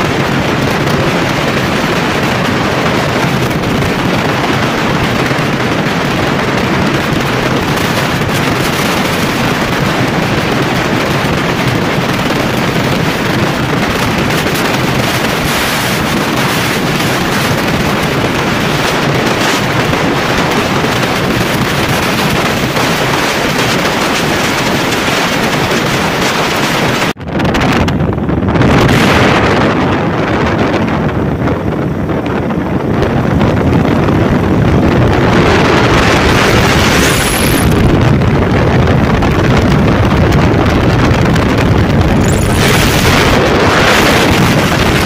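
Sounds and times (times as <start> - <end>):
motorcycle road and engine noise: 0.0 - 45.0
wind rush on microphone: 0.0 - 45.0.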